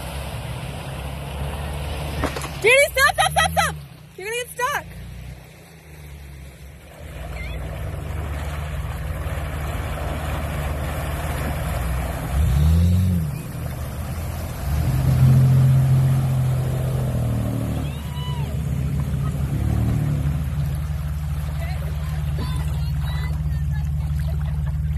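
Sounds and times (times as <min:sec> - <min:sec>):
car engine running: 0:00.0 - 0:24.9
water churning and splashing: 0:00.0 - 0:24.9.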